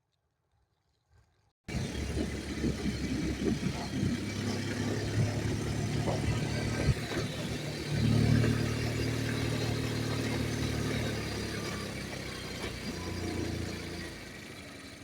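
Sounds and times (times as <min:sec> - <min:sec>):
motorbike engine running: 0:01.7 - 0:15.0.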